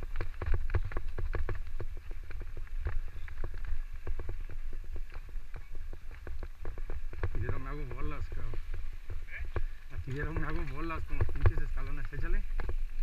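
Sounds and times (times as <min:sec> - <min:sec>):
bike knocks and rattles: 0:00.0 - 0:13.0
steady low rumble: 0:00.0 - 0:13.0.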